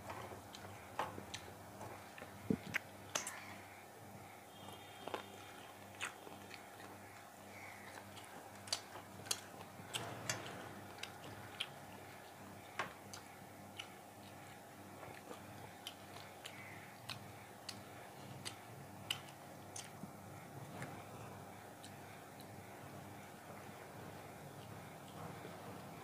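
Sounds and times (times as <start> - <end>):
person chewing food: 0.2 - 3.6, 4.6 - 22.6.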